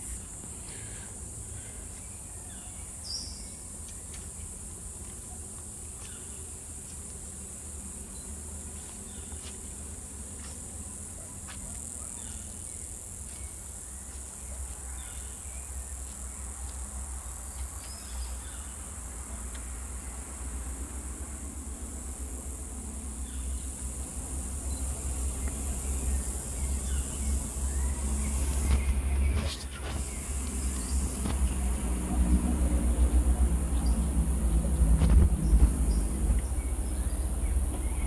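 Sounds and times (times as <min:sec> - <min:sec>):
insect chorus drone: 0:00.0 - 0:38.0.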